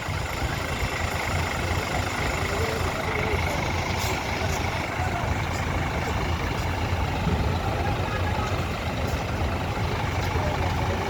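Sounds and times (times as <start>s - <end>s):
diesel engine rumbling: 0.0s - 11.0s
people's voices: 0.0s - 11.0s.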